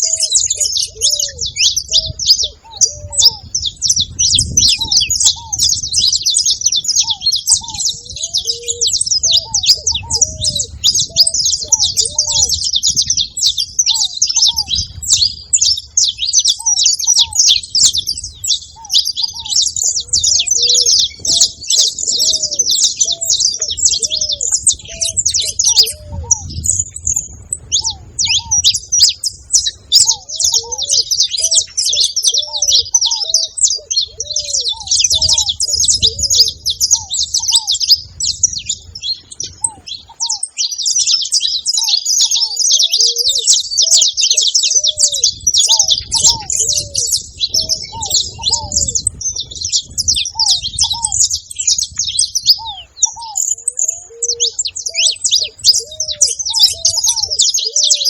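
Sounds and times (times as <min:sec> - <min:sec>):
finches singing and chirping: 0:00.0 - 0:58.0
repeated arched bird calls: 0:00.0 - 0:58.0.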